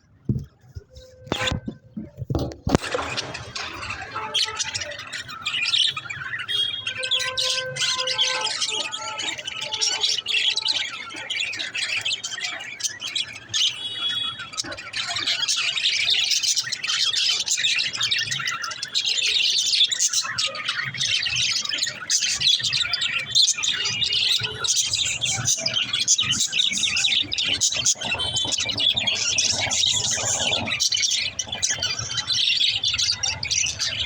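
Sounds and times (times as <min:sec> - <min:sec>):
budgerigars chirping and chattering: 0:01.3 - 0:34.0.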